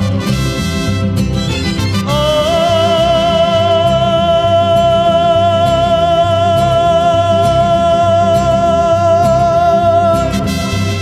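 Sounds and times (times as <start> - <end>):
band backing with bass pulse: 0.0 - 11.0.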